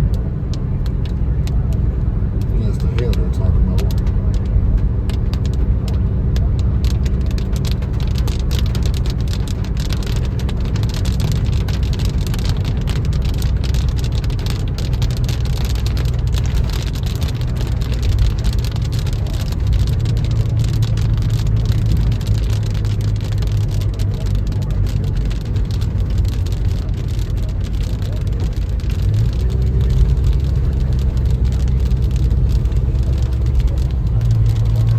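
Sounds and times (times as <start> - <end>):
rain striking car: 0.0 - 34.9
road and engine drone: 0.0 - 34.9.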